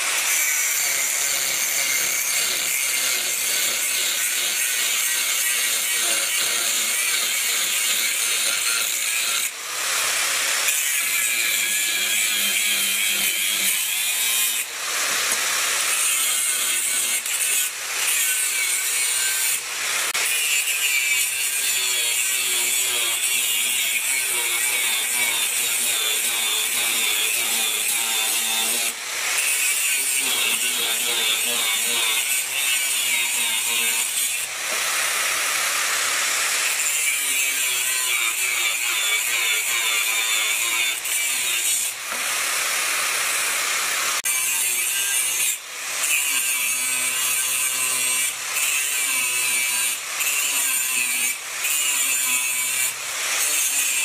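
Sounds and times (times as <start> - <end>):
angle grinder grinding steel: 0.0 - 54.0.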